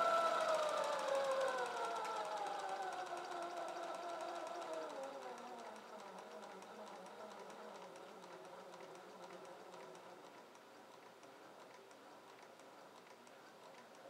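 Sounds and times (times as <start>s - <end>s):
sewing machine mechanical ticks: 0.0s - 14.0s
sewing machine motor hum: 0.0s - 14.0s.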